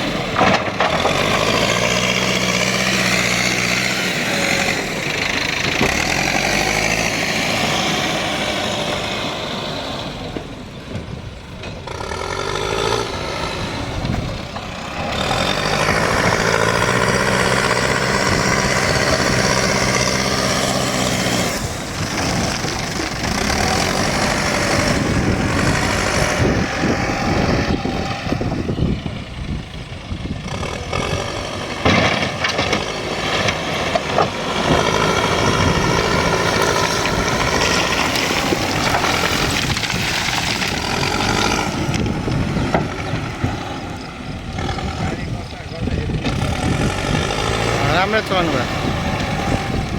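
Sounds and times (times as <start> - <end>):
diesel engine working under load: 0.0 - 49.9.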